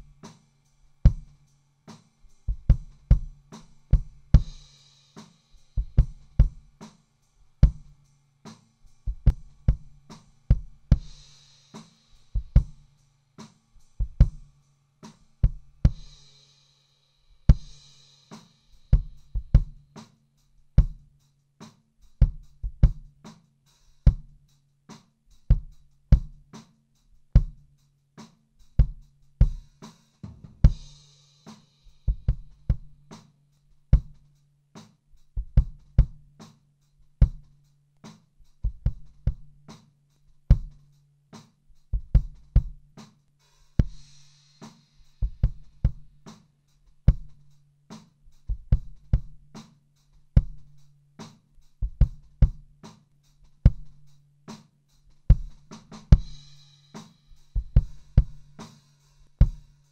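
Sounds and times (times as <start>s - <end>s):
faint high hiss: 0.0s - 59.9s.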